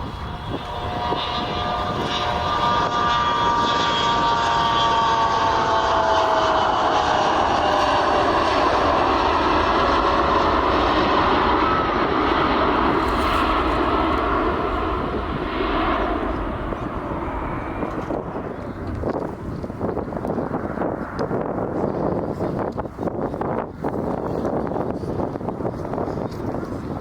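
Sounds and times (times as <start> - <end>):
jet airliner passing by: 0.0 - 27.0.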